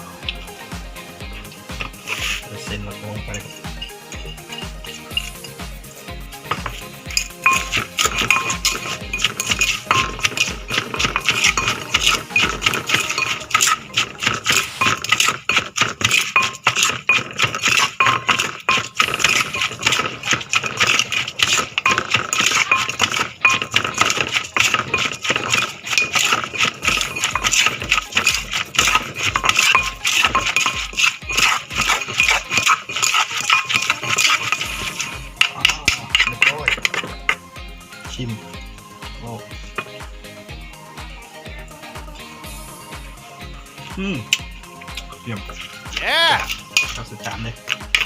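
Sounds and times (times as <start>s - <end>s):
background music with a beat: 0.0s - 48.0s
pestle clattering in a mortar: 1.2s - 2.5s, 3.1s - 37.8s, 39.7s - 40.2s, 44.2s - 48.0s.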